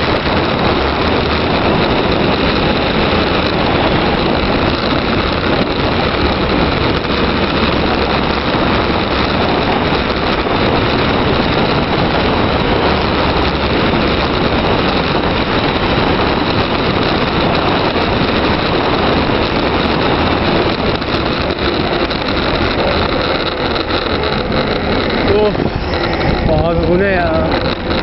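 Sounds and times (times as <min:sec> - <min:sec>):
tyre noise on asphalt: 0:00.0 - 0:28.0
wind rushing over microphone: 0:00.0 - 0:28.0.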